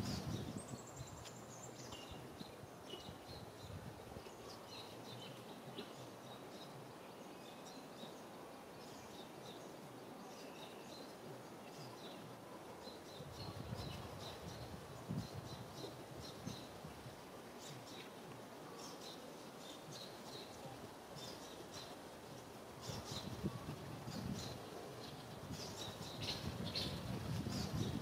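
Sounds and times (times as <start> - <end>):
faint outdoor ambience: 0.0 - 28.0.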